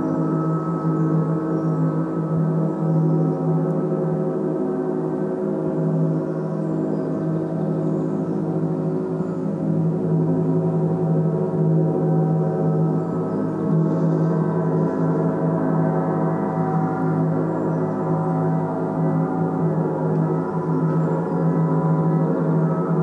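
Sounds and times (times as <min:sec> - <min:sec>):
gong sounding continuously: 0:00.0 - 0:23.0.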